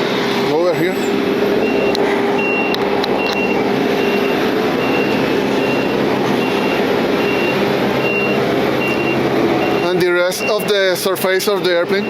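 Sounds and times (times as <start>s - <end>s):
aircraft and ground equipment noise: 0.0s - 12.0s
vehicle reversing alarm beeping: 1.0s - 12.0s.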